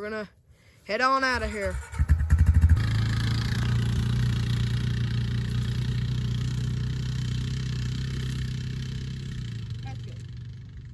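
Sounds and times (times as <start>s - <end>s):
atv engine running: 1.4s - 10.9s.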